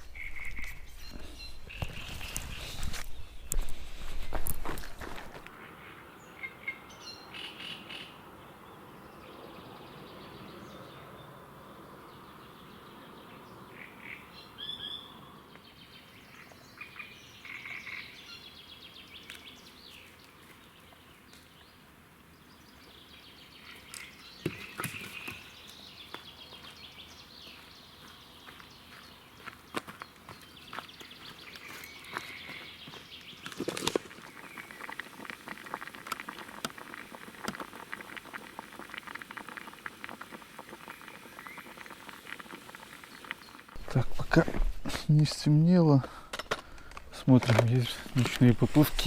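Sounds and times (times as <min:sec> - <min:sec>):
small birds chirping: 0:00.0 - 0:04.4, 0:05.4 - 0:44.4.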